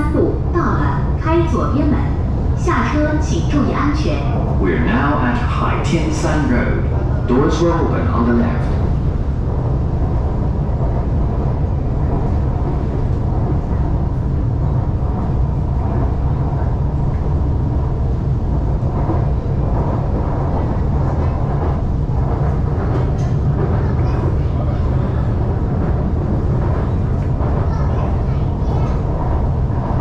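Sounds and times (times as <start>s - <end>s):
metro train rumble: 0.0s - 30.0s.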